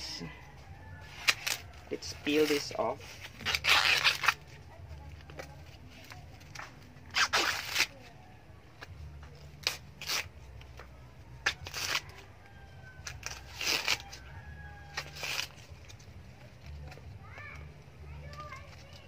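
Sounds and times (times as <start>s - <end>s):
corn husks ripping and rustling: 1.0s - 8.2s, 8.8s - 19.0s.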